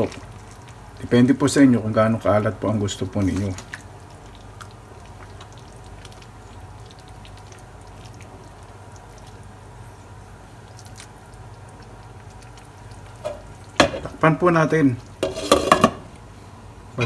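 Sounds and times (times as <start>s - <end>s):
soup sloshing while stirred: 2.4s - 16.3s.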